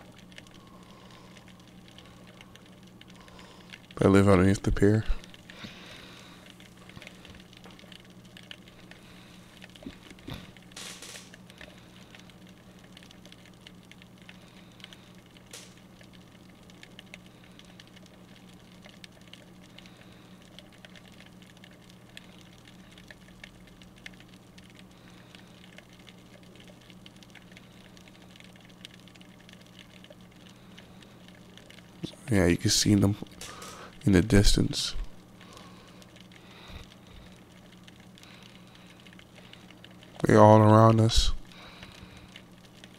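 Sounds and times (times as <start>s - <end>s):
steady low hum: 0.0s - 42.9s
underwater crackling and clicking: 0.0s - 42.9s.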